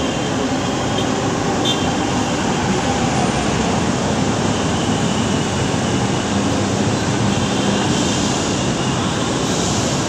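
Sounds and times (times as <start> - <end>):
light rail train rumbling: 0.0 - 10.0.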